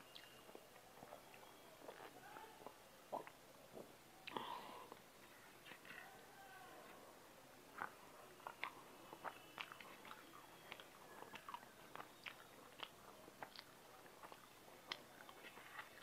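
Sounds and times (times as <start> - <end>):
lip smacks and soft clicks: 0.0 - 6.0, 7.7 - 16.0
wet chewing: 0.1 - 6.1, 7.7 - 16.0.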